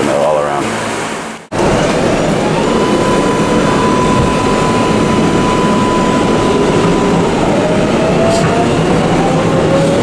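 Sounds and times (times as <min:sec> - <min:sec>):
subway train rumbling: 0:00.0 - 0:10.0
high whine: 0:01.3 - 0:10.0.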